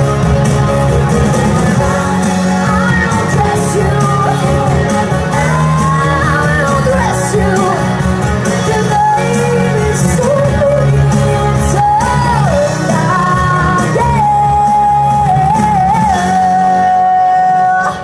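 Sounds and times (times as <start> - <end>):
drums and bass backing track: 0.0 - 18.0
woman singing pop-rock song: 1.0 - 18.0.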